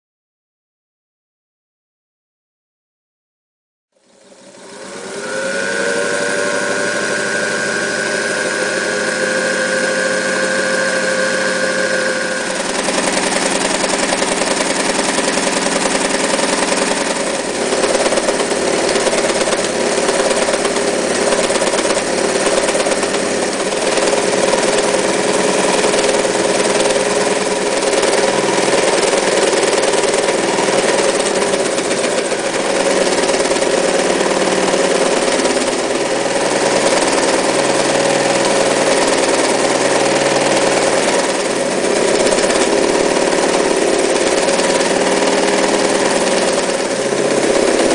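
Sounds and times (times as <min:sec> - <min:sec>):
electric sewing machine humming: 0:04.0 - 0:47.9.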